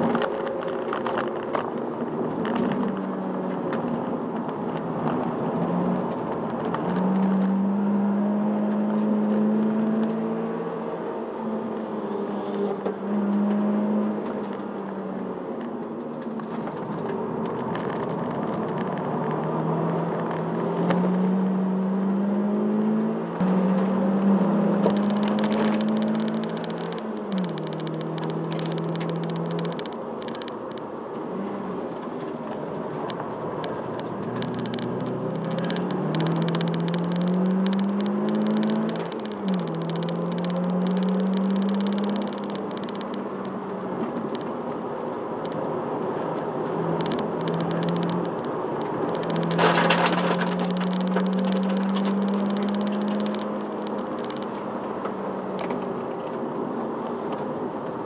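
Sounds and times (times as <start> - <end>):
car engine revving and shifting: 0.0 - 58.0
road and wind noise: 0.0 - 58.0.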